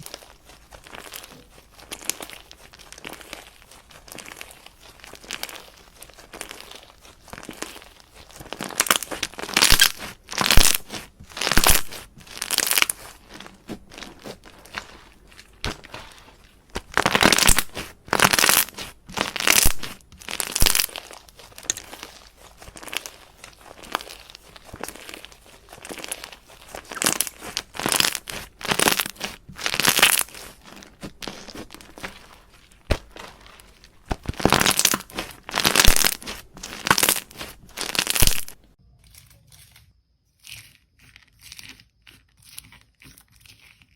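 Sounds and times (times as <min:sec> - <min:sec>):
slime popping and crackling: 0:00.0 - 0:38.7.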